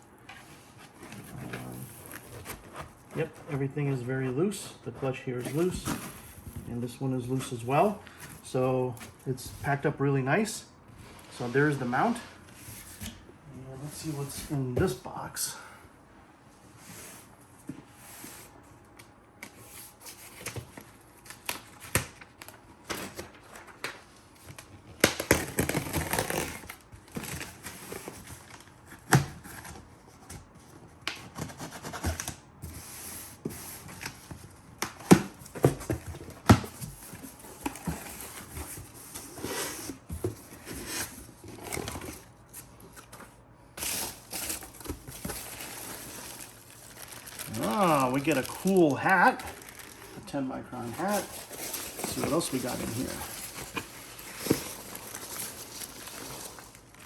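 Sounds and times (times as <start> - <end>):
cardboard packing rustling: 0.1 - 15.3, 16.8 - 57.0.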